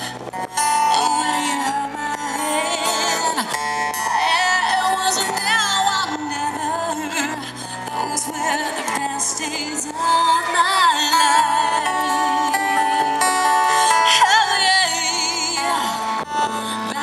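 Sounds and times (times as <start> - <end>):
second guitar: 0.0 - 17.0
strummed acoustic guitar: 0.0 - 17.0
woman singing with vibrato: 0.0 - 17.0.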